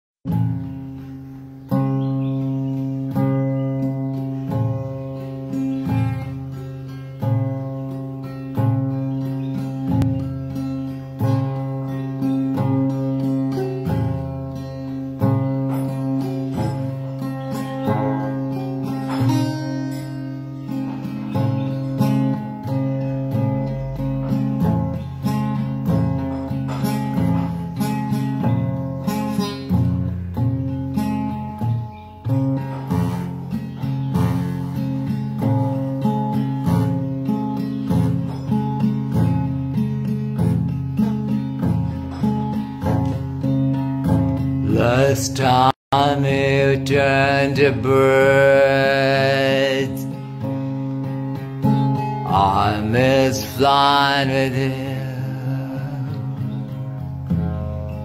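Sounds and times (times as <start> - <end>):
strummed acoustic guitar chords: 0.2 - 58.0.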